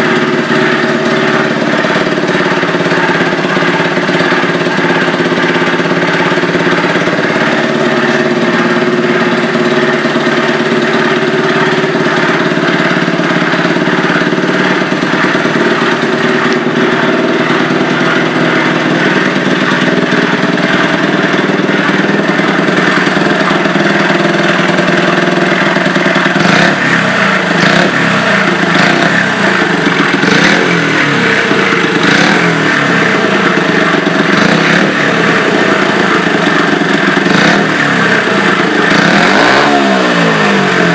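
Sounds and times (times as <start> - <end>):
motorbike engine idling and revving: 0.0 - 40.9.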